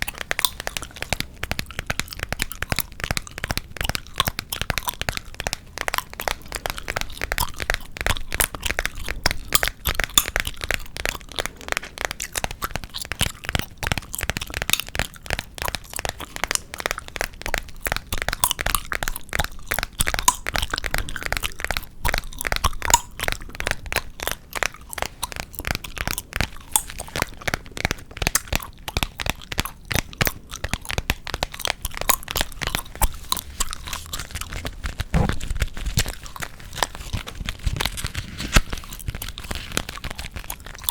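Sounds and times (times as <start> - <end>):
gum chewing smacks: 0.0 - 40.9.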